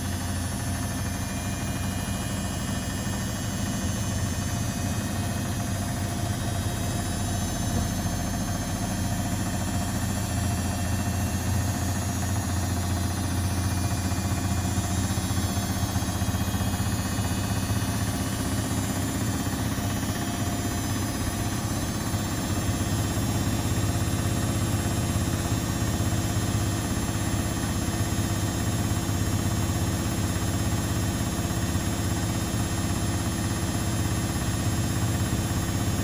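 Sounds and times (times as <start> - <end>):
washing machines and dryers humming: 0.0 - 36.0.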